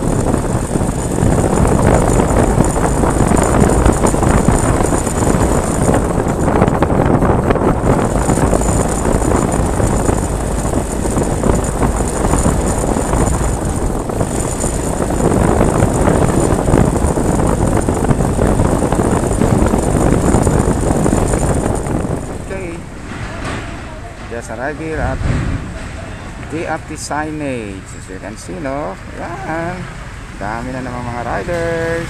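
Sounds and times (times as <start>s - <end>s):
motorcycle engine: 0.0s - 28.1s
road noise: 0.0s - 32.0s
wind rushing over microphone: 0.0s - 32.0s.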